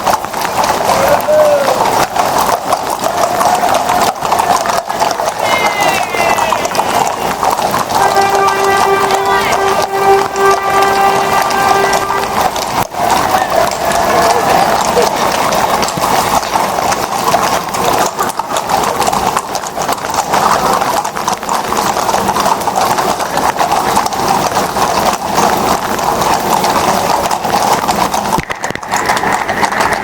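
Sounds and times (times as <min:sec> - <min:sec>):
horses' hooves clip-clopping: 0:00.0 - 0:30.0.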